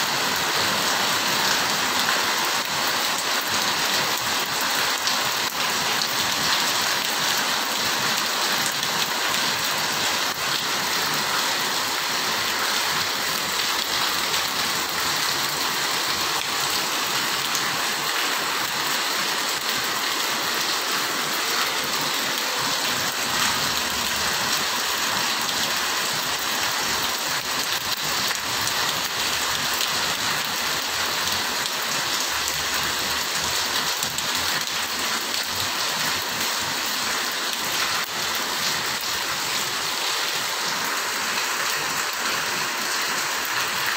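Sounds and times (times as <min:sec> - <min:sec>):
heavy rain on paving and roofs: 0:00.0 - 0:43.9.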